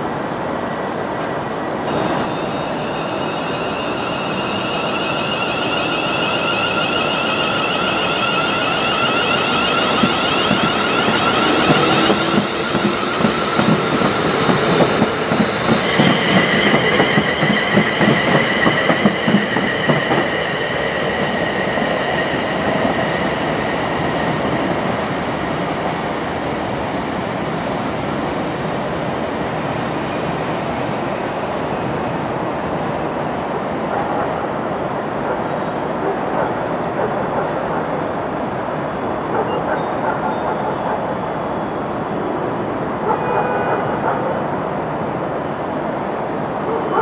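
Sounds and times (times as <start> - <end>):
high-pitched train whine: 0.0 - 47.0.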